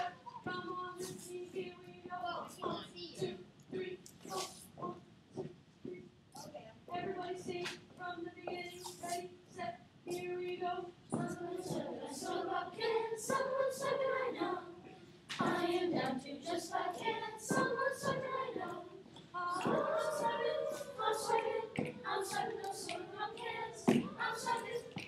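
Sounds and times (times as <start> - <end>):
children's choir singing: 0.0 - 5.0, 6.9 - 25.0.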